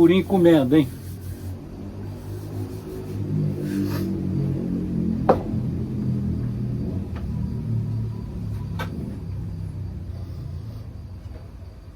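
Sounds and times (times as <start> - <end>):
low motor rumble: 1.0 - 11.9.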